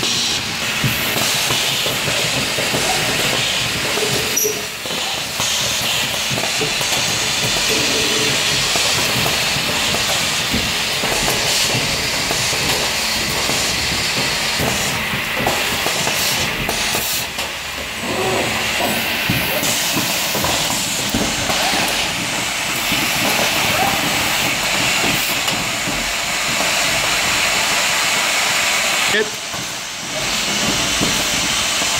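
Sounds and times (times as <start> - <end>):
pneumatic air hiss: 0.0 - 31.9.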